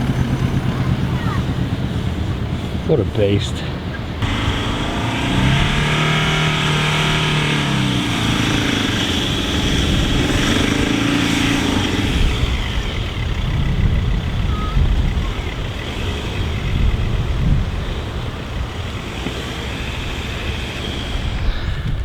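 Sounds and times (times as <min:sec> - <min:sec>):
vehicle engine under load: 0:00.0 - 0:22.0.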